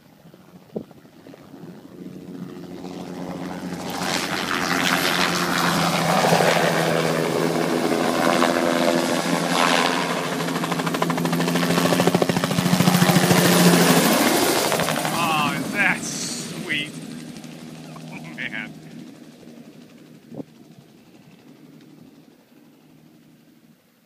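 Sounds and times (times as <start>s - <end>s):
helicopter rotor chopping: 0.4s - 23.1s.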